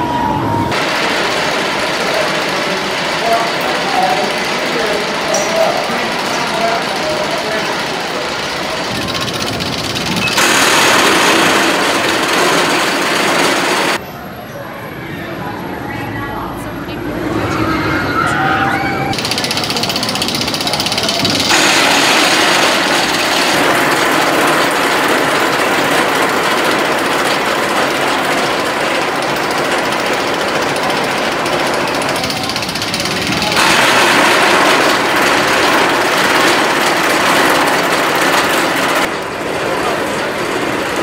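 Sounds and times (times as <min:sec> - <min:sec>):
roller coaster chain lift clatter: 0:00.7 - 0:14.0, 0:17.3 - 0:41.0.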